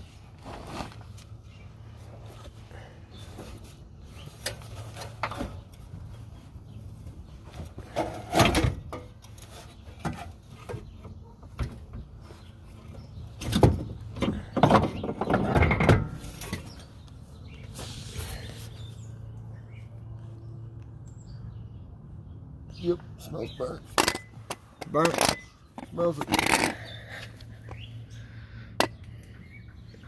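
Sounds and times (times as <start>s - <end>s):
handling clunks and scrapes: 0.0s - 19.0s, 22.8s - 27.9s, 28.7s - 30.0s.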